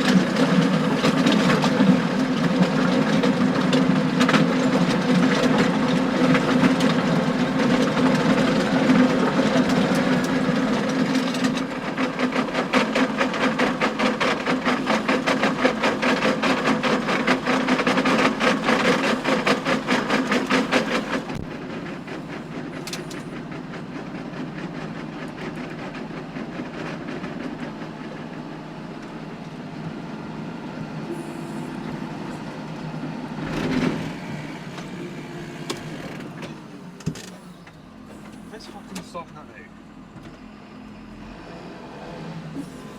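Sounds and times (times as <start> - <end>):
tractor engine droning: 0.0 - 42.9.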